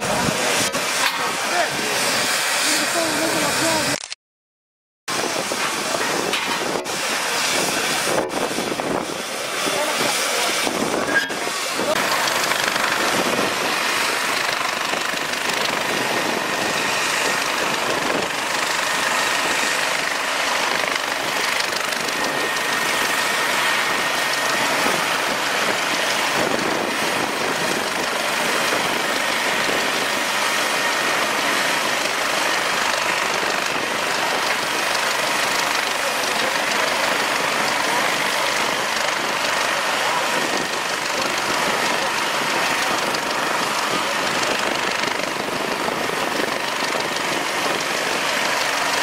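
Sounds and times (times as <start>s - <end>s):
helicopter engine idling: 0.0s - 4.0s, 5.1s - 49.0s.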